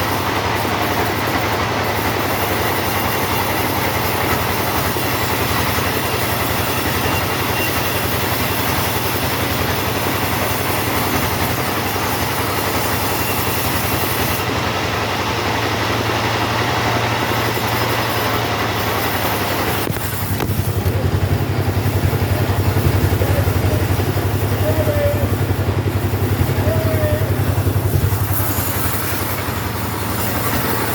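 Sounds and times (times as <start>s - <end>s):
chainsaw cutting wood: 0.0s - 14.6s, 15.7s - 24.6s, 25.3s - 30.9s.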